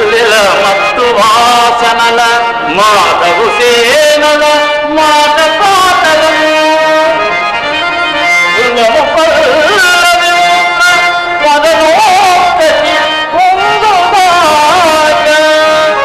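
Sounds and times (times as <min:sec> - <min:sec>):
harmonium sustaining reedy tones: 0:00.0 - 0:16.0.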